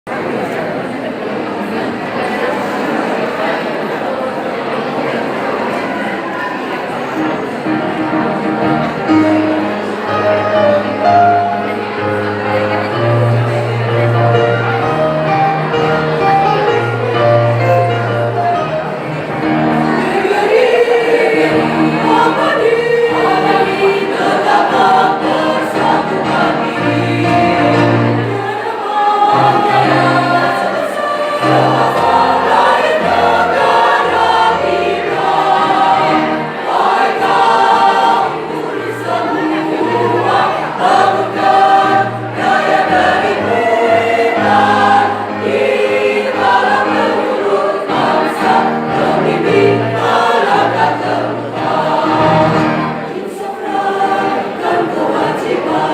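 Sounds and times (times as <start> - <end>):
choir singing: 0.1 - 55.9.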